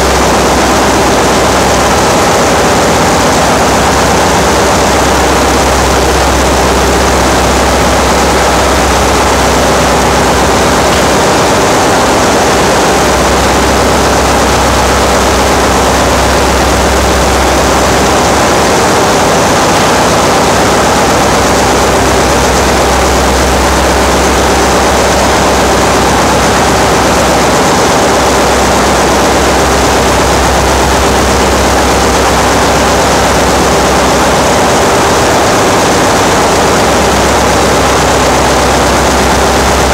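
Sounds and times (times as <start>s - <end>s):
engine-room machinery din: 0.0s - 39.9s.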